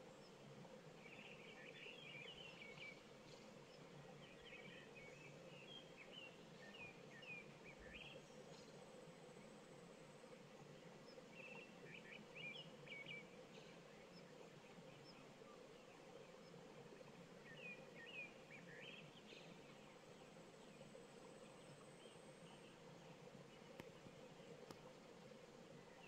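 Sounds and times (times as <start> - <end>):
low steady evening hum: 0.0 - 26.0
songbird chirping: 0.1 - 26.0.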